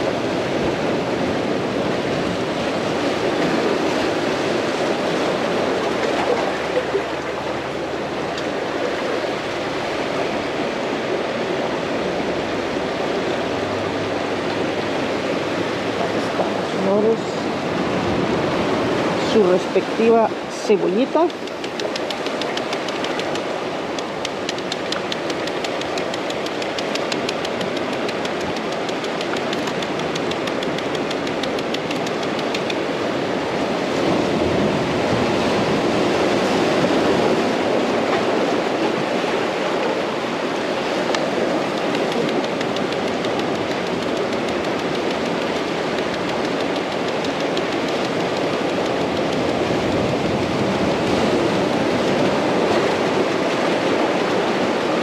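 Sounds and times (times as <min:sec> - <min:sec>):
surf: 0:00.0 - 0:55.0.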